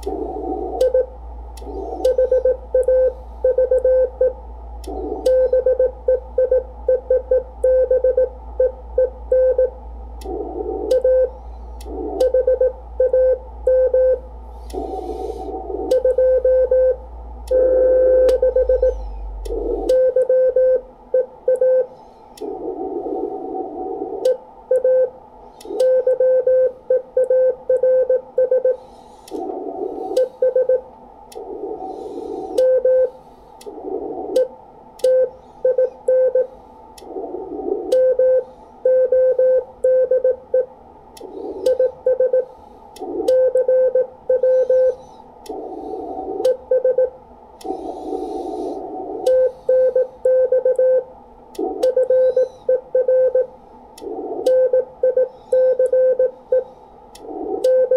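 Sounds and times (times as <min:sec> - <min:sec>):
receiver hiss: 0:00.0 - 0:57.9.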